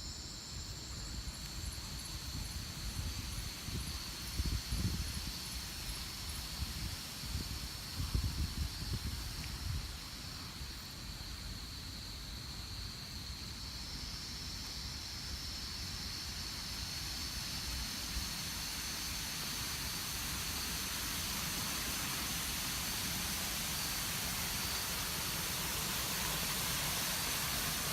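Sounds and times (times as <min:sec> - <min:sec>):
rushing hiss: 0:00.0 - 0:27.9.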